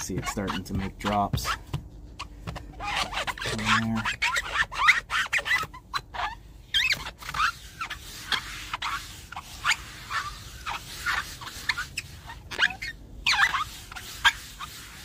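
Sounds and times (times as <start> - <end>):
sponge squeaking on fiberglass: 0.0 - 15.0.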